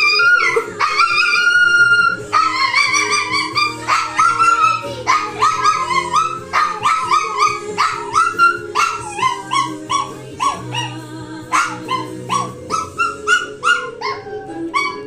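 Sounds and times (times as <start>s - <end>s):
dog yipping: 0.0s - 15.0s
music with held notes: 0.0s - 15.0s.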